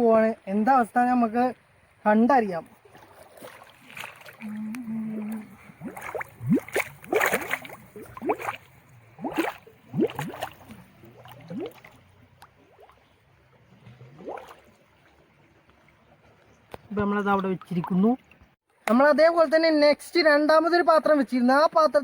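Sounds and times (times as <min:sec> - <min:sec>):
shallow water sloshing and gurgling: 0:00.4 - 0:18.6.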